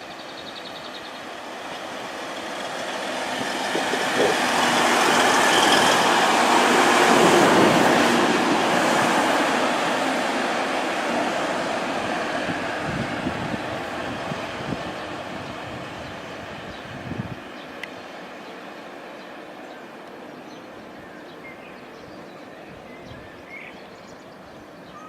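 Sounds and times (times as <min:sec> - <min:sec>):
train passing rumble: 0:00.0 - 0:25.0.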